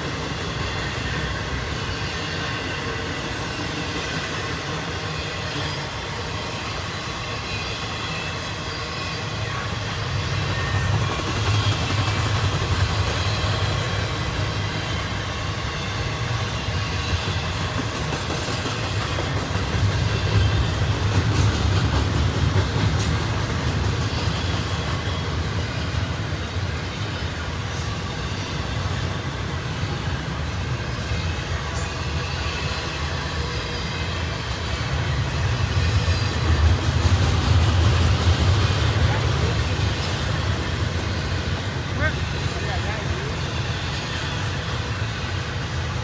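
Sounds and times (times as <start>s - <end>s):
freight train wheels rumbling on rail: 0.0s - 46.0s.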